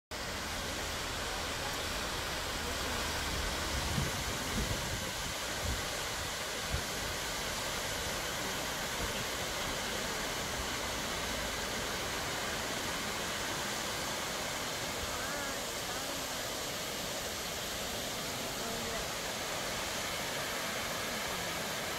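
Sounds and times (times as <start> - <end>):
waterfall rushing: 0.1 - 21.9.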